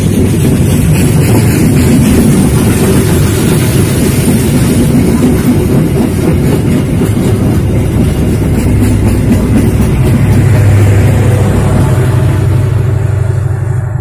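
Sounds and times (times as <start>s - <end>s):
clickety-clack over rail joints: 0.0s - 12.7s
train wheels rumbling on rails: 0.0s - 14.0s.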